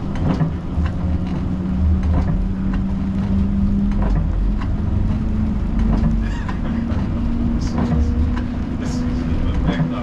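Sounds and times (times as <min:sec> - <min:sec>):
tram motor hum: 0:00.0 - 0:10.0
tram rumbling on rails: 0:00.0 - 0:10.0.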